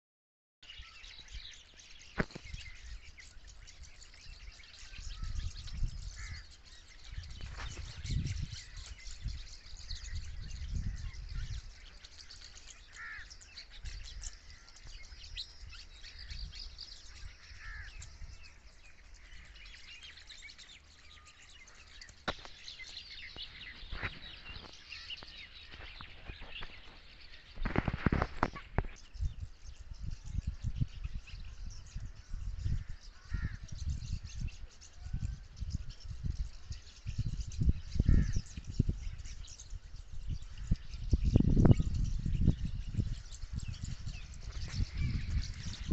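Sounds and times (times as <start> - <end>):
birds chirping: 0.6 - 45.9.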